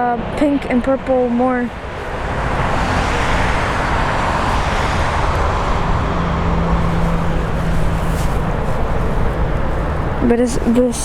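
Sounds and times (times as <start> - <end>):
jet engines rushing: 0.0 - 11.0
low steady hum: 0.0 - 11.0.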